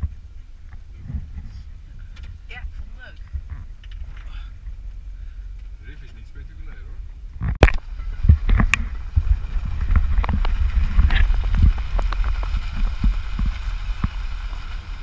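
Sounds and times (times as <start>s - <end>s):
tyres on gravel road: 0.0s - 15.0s
wind buffeting microphone: 0.0s - 15.0s.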